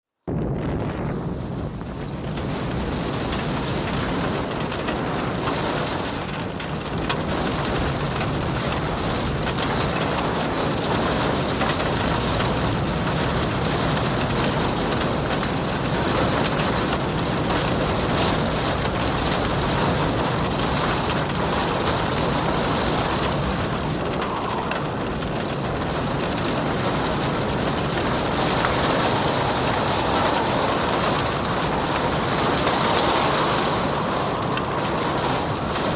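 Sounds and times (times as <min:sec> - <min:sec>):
wind: 0:00.2 - 0:35.9
steady rain: 0:00.3 - 0:35.9.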